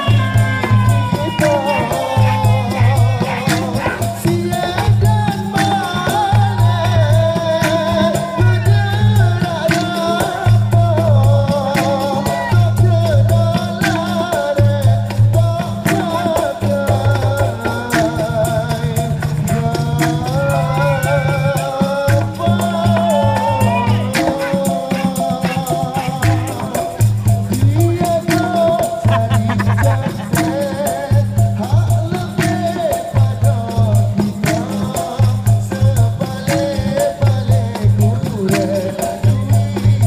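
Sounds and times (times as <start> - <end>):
person singing melody: 0.0 - 40.0
shakers: 0.0 - 40.0.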